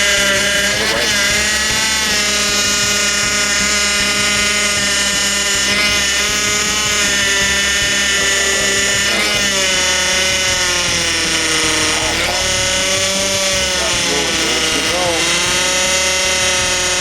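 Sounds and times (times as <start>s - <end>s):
car engine running: 0.0s - 17.0s
power steering pump whine: 0.0s - 17.0s.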